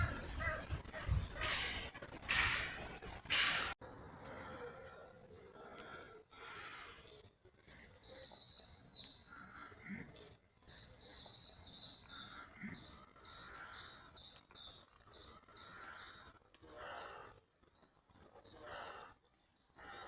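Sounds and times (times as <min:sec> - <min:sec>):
songbird singing: 0:00.0 - 0:05.9, 0:06.6 - 0:20.0.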